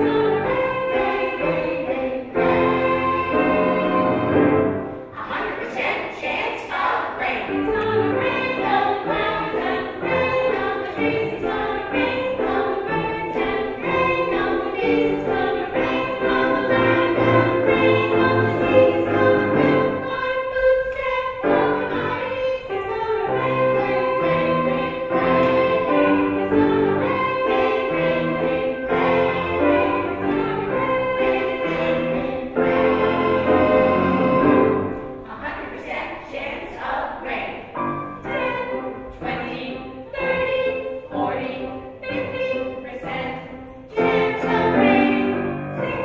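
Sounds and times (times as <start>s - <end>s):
instrumental accompaniment: 0.0s - 5.7s, 7.1s - 35.4s, 37.7s - 46.0s
children's choir singing: 0.0s - 46.0s.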